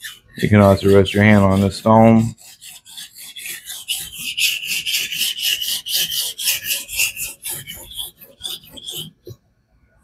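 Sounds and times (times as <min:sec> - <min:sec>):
knife scraping on whetstone: 0:00.0 - 0:09.4.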